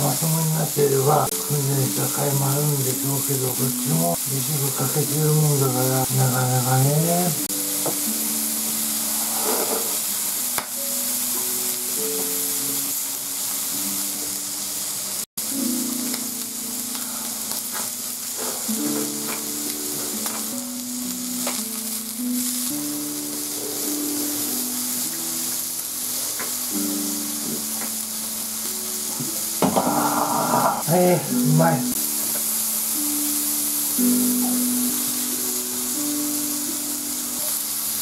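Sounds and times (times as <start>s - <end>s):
background music of held notes: 0.0s - 38.0s
meat sizzling on a grill: 0.0s - 38.0s.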